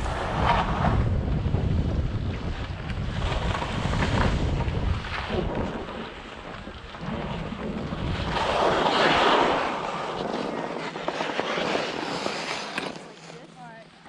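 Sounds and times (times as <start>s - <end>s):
wind rushing over microphone: 0.0s - 12.7s
skis scraping over hard snow: 0.0s - 13.8s.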